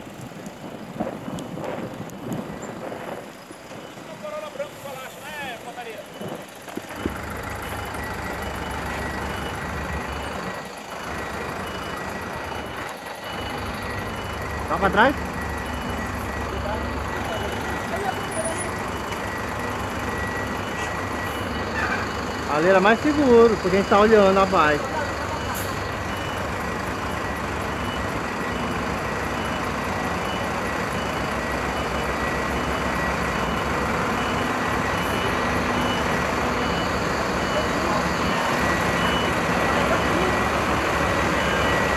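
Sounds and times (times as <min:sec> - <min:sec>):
vehicle back-up alarm beeping: 0:01.3 - 0:41.9.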